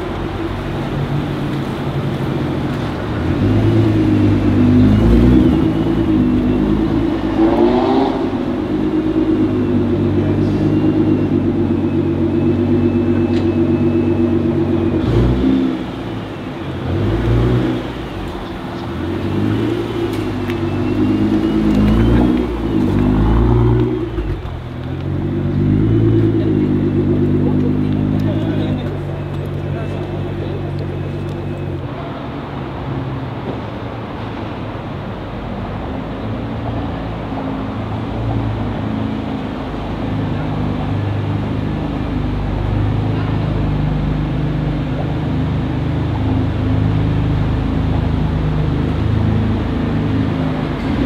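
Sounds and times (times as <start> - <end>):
car engine at low revs: 0.0 - 51.0.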